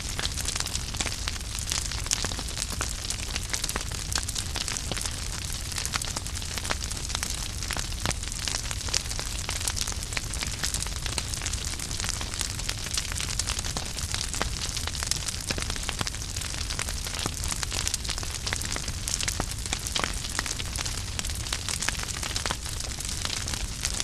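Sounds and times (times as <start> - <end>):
logs crackling in fireplace: 0.1 - 24.0.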